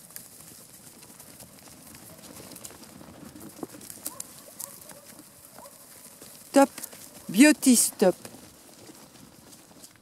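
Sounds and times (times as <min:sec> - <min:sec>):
animals running across grass: 0:00.0 - 0:10.0.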